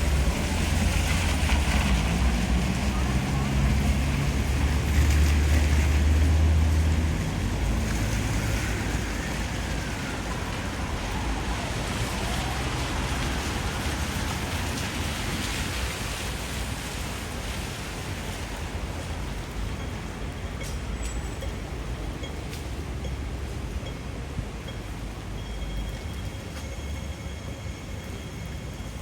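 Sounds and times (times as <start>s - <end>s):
traffic: 0.0s - 29.0s.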